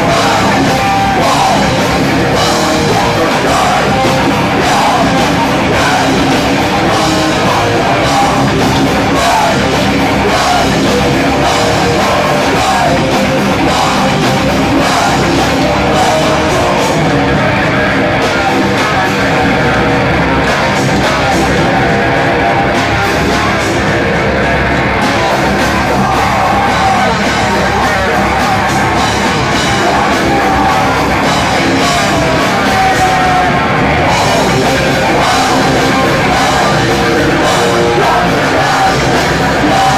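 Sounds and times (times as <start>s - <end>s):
bass guitar: 0.0s - 39.9s
drum kit: 0.0s - 39.9s
electric guitar: 0.0s - 39.9s
person singing into a microphone: 0.0s - 39.9s.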